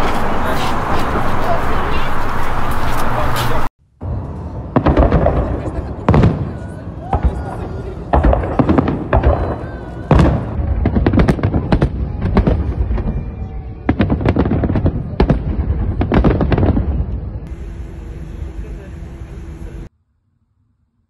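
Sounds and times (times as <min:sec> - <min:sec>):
fireworks bangs and crackles: 0:00.0 - 0:17.6.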